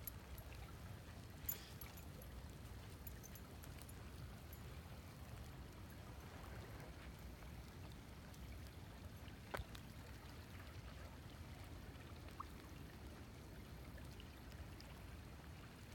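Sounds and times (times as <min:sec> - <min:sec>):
low rumble of river ambience: 0:00.0 - 0:15.9.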